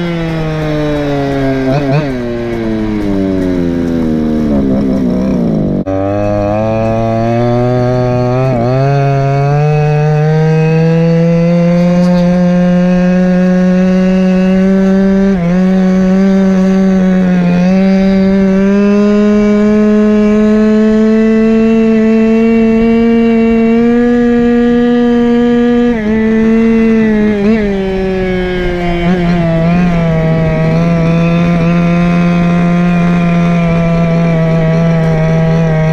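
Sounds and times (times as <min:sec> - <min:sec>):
small two-stroke engine running: 0:00.0 - 0:35.9.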